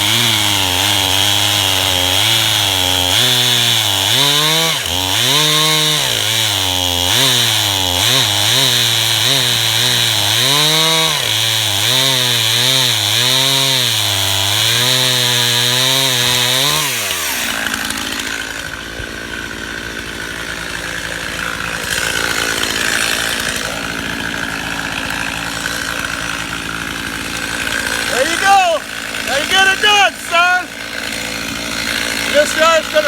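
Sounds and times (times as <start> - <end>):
chainsaw cutting log: 0.0 - 33.0.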